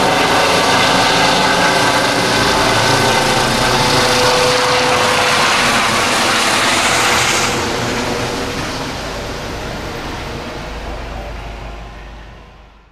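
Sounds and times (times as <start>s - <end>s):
helicopter rotor and engine: 0.0s - 12.9s.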